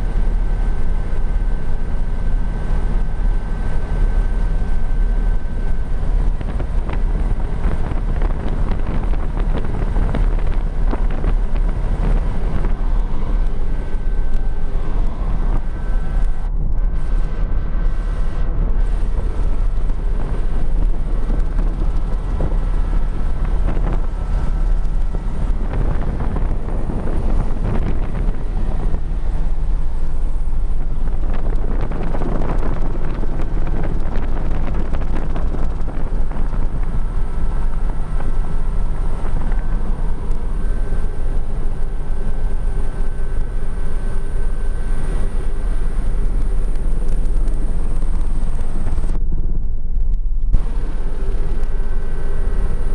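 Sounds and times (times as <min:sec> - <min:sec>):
helicopter drone: 0:00.0 - 0:52.9
high steady whine: 0:00.0 - 0:52.9.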